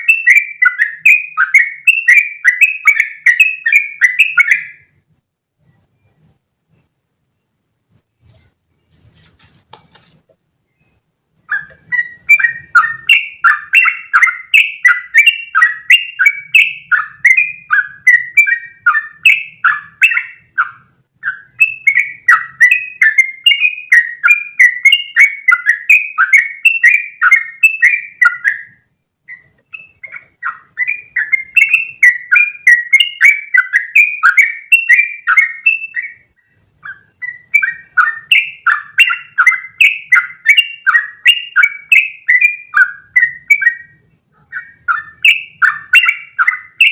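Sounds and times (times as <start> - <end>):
bulbul singing chirping notes: 0.0 - 5.0, 10.6 - 46.9.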